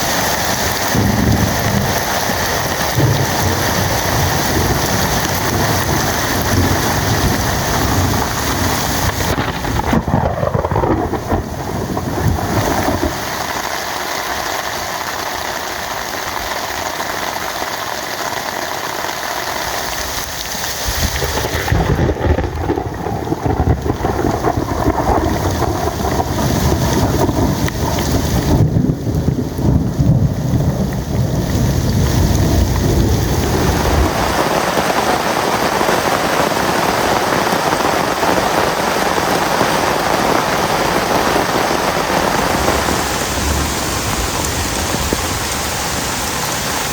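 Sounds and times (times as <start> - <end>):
heavy rain pouring: 0.0 - 46.9
deep rumble of thunder: 0.6 - 13.7, 20.9 - 36.2, 36.9 - 46.1.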